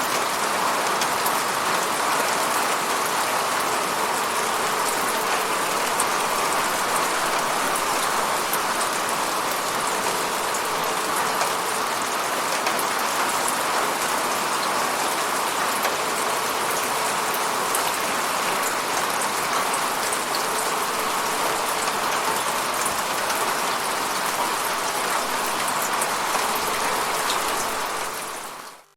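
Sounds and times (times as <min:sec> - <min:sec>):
rain falling on a surface: 0:00.0 - 0:28.9.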